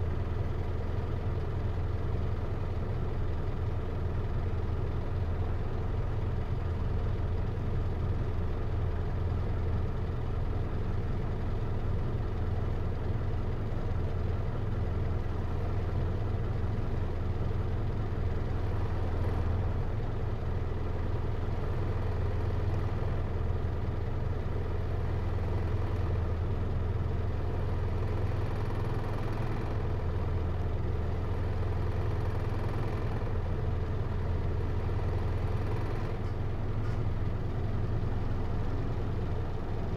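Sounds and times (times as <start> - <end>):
diesel engine running inside cabin: 0.0 - 39.9.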